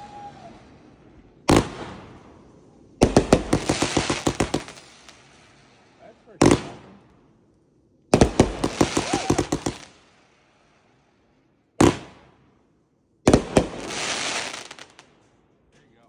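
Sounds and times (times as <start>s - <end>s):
firework crackling hiss: 0.0s - 7.1s, 8.1s - 12.2s, 13.3s - 15.3s
firework bangs: 0.0s - 7.4s, 8.1s - 11.1s, 11.7s - 12.6s, 13.2s - 15.4s
fireworks cracking: 0.0s - 12.6s, 13.2s - 16.0s.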